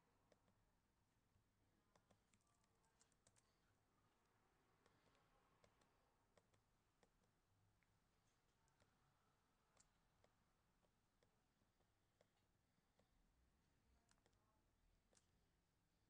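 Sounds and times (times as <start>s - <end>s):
computer mouse clicks: 0.2s - 0.6s, 1.8s - 13.1s, 14.0s - 15.4s.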